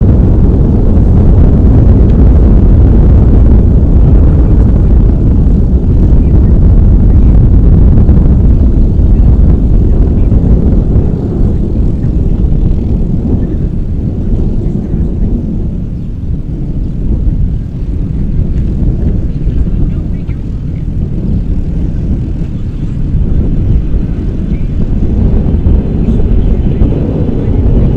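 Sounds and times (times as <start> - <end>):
jet engines roaring at takeoff: 0.0 - 27.9.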